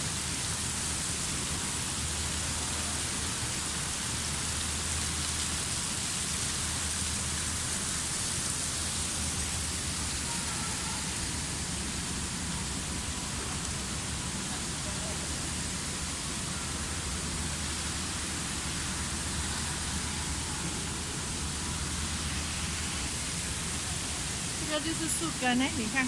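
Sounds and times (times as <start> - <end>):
waterfall rushing and splashing: 0.0 - 26.0.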